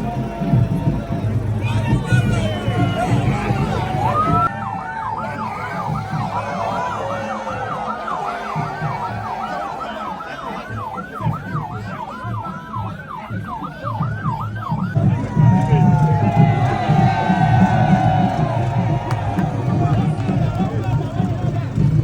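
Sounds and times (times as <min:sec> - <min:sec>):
emergency siren yelping: 0:00.0 - 0:22.0.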